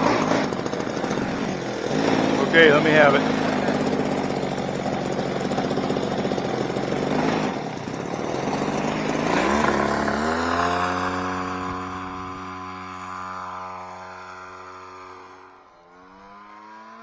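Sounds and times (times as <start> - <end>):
small engine buzzing: 0.0 - 17.0.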